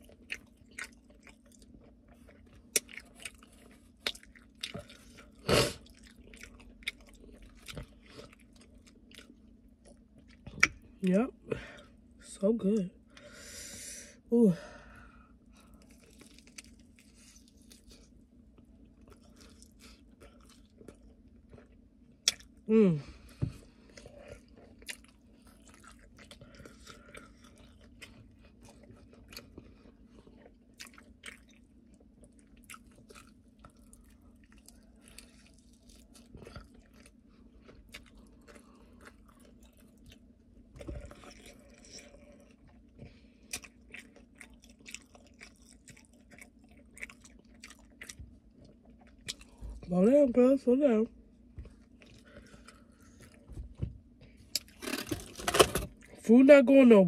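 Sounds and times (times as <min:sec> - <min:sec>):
person chewing and biting food: 0:00.0 - 0:10.9, 0:15.5 - 0:22.6, 0:23.6 - 0:49.8, 0:51.6 - 0:56.1.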